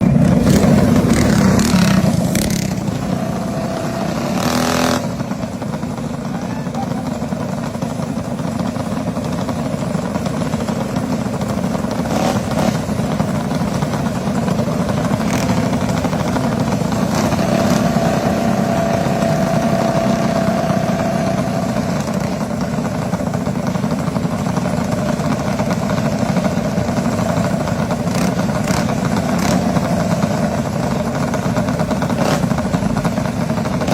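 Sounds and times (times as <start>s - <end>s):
minibike engines racing: 0.0s - 33.9s.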